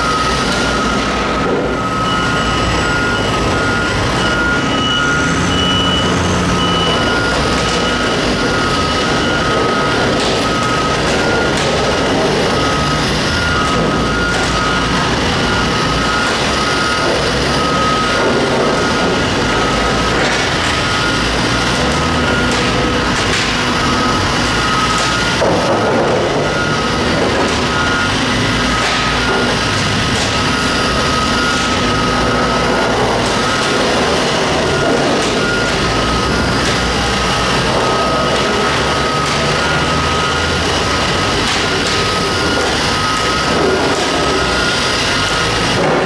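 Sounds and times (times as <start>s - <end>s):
excavator diesel engine drone: 0.0s - 46.0s
two-tone warning alarm beeping: 0.0s - 46.0s.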